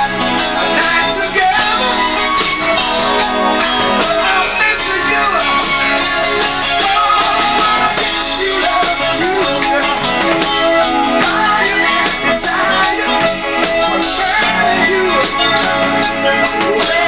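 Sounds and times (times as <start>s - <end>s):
electric guitar: 0.0s - 17.0s
keyboards: 0.0s - 17.0s
live funk band playing: 0.0s - 17.0s.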